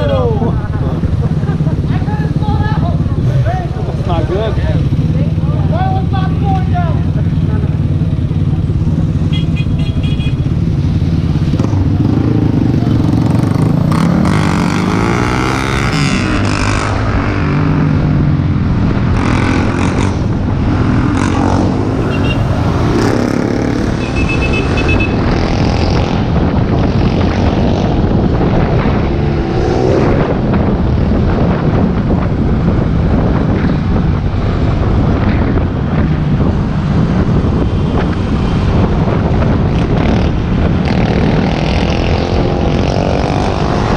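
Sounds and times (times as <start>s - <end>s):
passing vehicles: 0.0s - 43.9s
road and wind noise: 0.0s - 43.9s.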